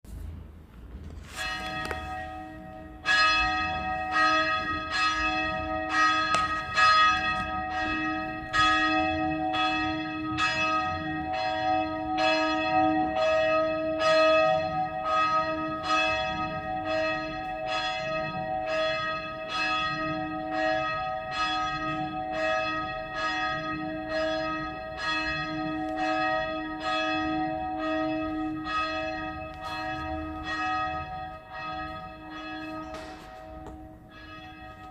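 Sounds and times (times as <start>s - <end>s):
church bells ringing: 0.9s - 34.9s.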